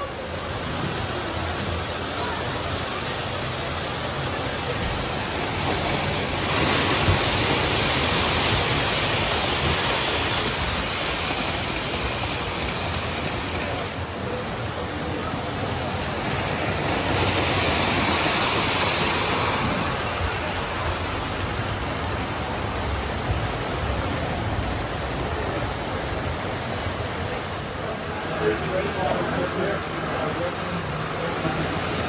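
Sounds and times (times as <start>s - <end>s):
model trains running on metal track: 0.0s - 32.0s.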